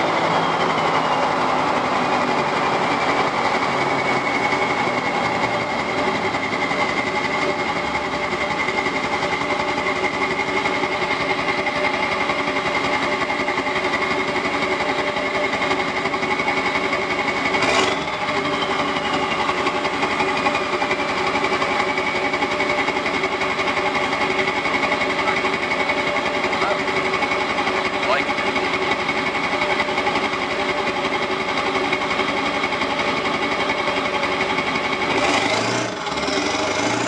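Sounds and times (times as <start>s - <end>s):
diesel engine clatter: 0.0s - 37.0s.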